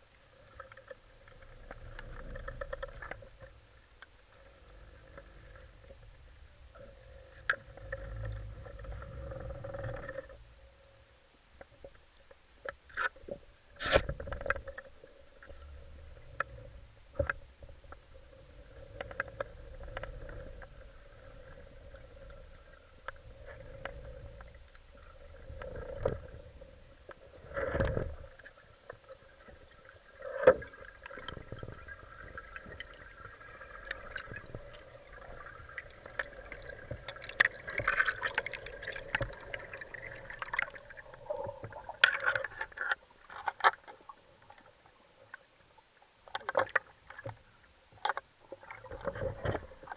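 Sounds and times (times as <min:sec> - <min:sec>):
muffled water movement: 0:00.0 - 0:49.9
underwater hum: 0:00.0 - 0:49.9.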